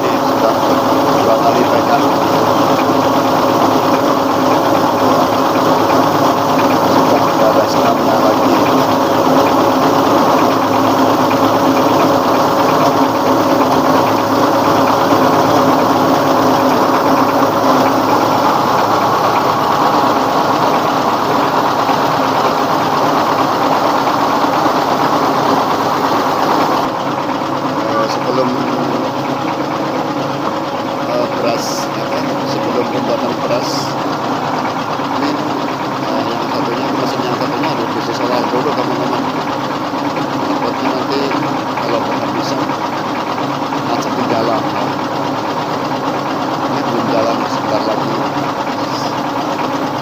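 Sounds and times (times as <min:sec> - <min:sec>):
rice husking machine running: 0:00.0 - 0:50.0.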